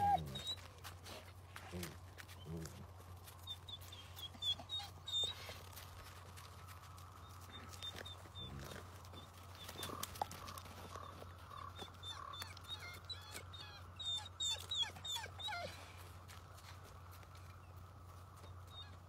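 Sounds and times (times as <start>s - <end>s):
wolves whining and yipping: 0.0s - 6.5s, 7.2s - 16.7s, 18.4s - 19.0s.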